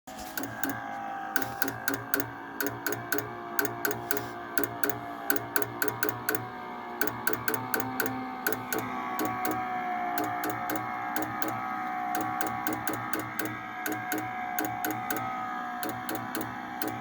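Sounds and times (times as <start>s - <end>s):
furnace relay clicking: 0.1s - 17.0s
steady whine: 0.1s - 17.0s.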